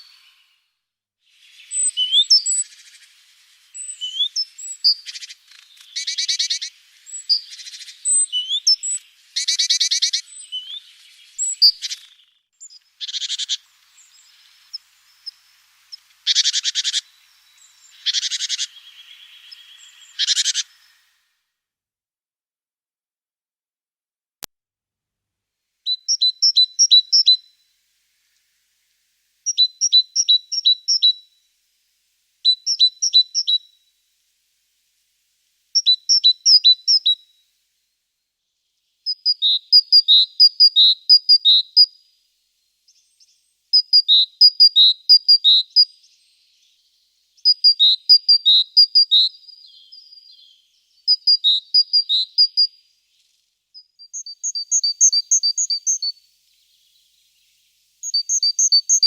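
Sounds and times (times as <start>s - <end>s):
songbird singing: 0.0s - 0.7s, 1.3s - 21.3s, 25.8s - 37.6s, 38.4s - 59.0s.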